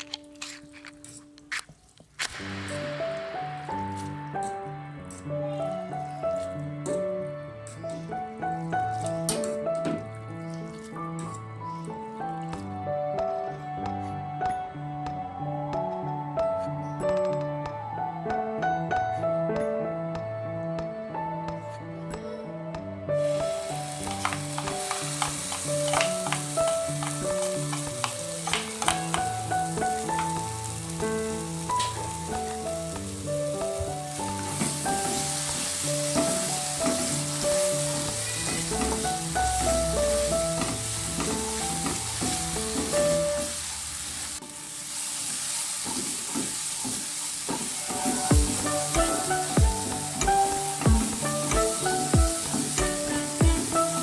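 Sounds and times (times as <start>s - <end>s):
food sizzling in oil: 0.0s - 12.6s, 23.2s - 54.0s
gentle instrumental music: 0.0s - 54.0s.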